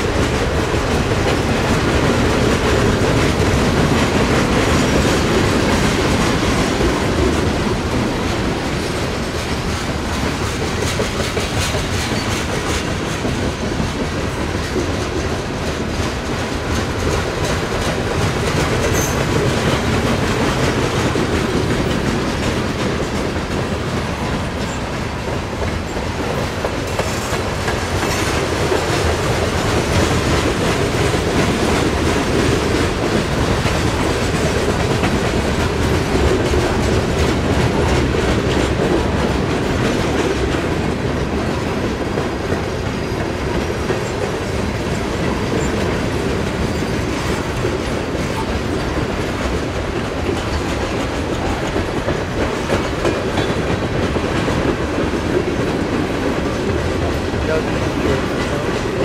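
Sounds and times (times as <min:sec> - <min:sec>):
train wheels rolling on rails: 0:00.0 - 0:59.0
wheels clickety-clack on rail joints: 0:00.0 - 0:59.0.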